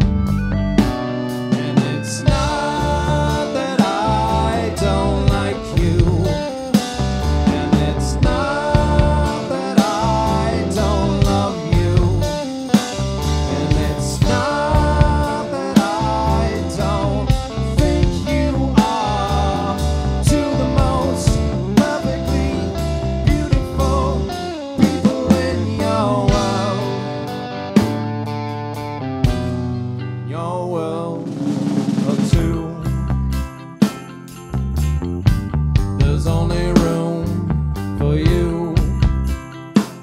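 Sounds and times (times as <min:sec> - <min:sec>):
drum kit beat: 0:00.0 - 0:30.0, 0:31.1 - 0:40.0
bass guitar: 0:00.0 - 0:40.0
electric guitar: 0:00.0 - 0:40.0
lead vocal singing: 0:01.4 - 0:27.6, 0:30.3 - 0:33.2, 0:36.0 - 0:39.1.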